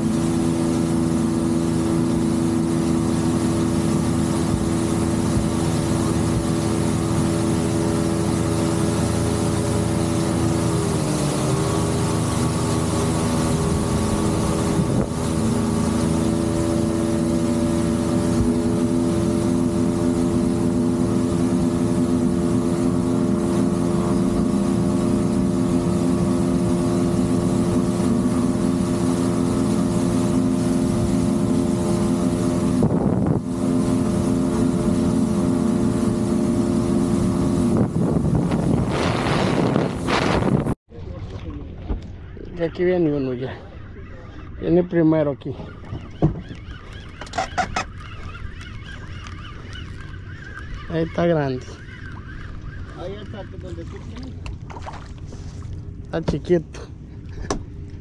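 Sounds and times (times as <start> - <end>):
outboard motor drone: 0.0 - 58.0
water rushing: 0.0 - 58.0
wind: 0.0 - 58.0.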